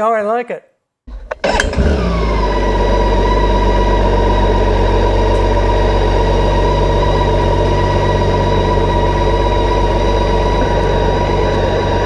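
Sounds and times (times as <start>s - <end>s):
motorcycle engine running: 1.1s - 12.0s.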